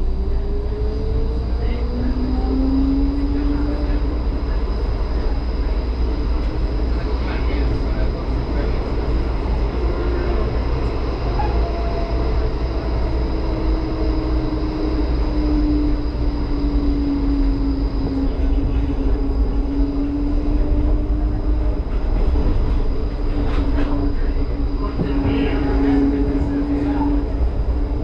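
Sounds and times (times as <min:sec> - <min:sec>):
tram wheels rumbling: 0:00.0 - 0:28.0.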